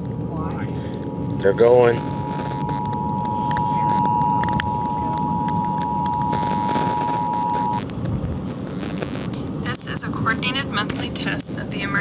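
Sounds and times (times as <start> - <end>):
radio hiss and crackle: 0.0 - 12.0.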